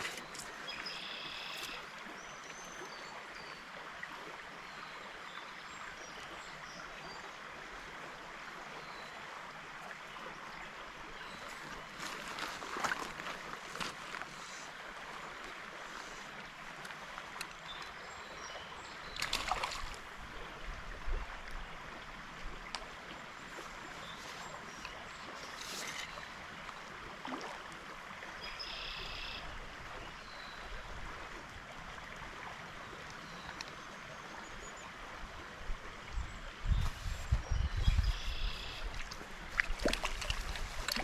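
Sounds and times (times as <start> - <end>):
stream water running: 0.0 - 41.0.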